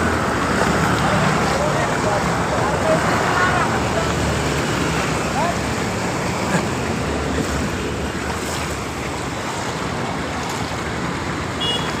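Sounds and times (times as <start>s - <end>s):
rain water rushing on road: 0.0s - 12.0s.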